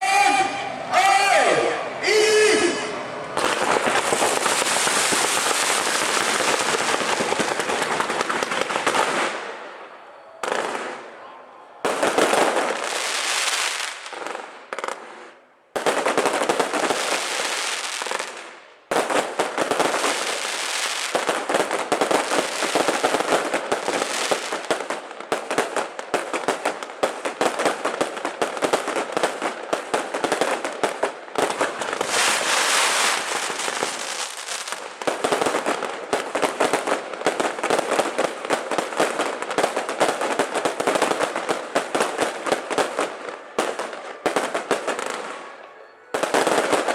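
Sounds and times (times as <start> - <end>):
firecrackers popping: 3.3 - 11.2, 11.8 - 46.9.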